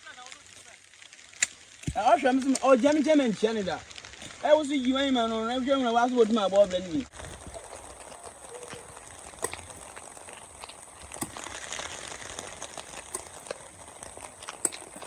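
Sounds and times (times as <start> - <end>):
faint outdoor background noise: 0.0 - 15.0
small clicks and crackles: 0.0 - 15.0.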